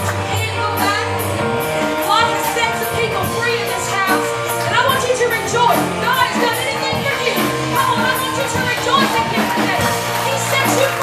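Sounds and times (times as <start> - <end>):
bass guitar: 0.0 - 11.0
keyboard: 0.0 - 11.0.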